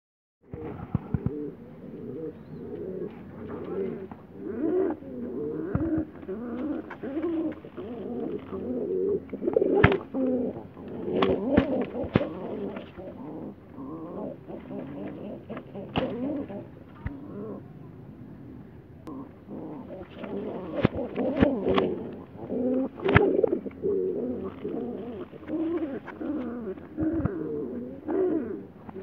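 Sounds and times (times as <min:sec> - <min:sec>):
pigeons cooing: 0:00.4 - 0:17.8, 0:19.0 - 0:29.0.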